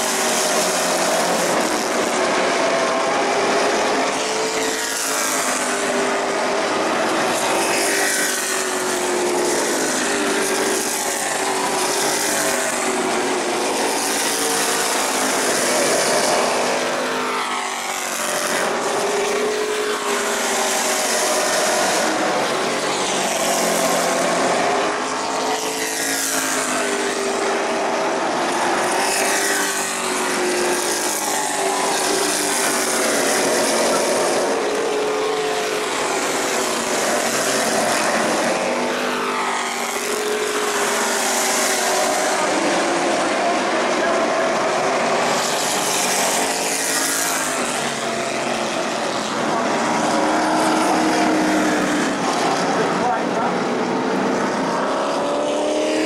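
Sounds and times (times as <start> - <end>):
race car engines droning: 0.0 - 56.0.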